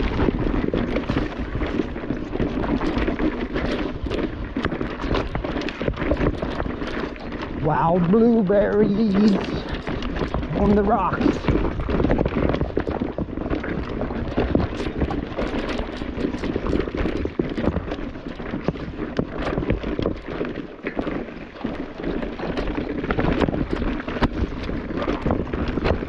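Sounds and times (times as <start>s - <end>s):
bike rattling: 0.0s - 26.0s
tyres crunching over stone: 0.0s - 26.0s
wind buffeting microphone: 0.0s - 26.0s.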